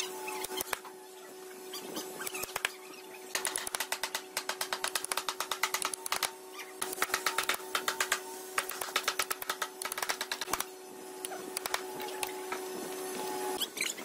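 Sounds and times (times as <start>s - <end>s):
steady hum: 0.0s - 13.8s.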